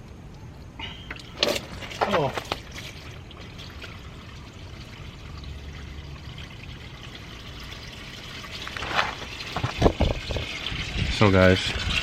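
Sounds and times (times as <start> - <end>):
oil pouring into drain pan: 1.0 - 12.0.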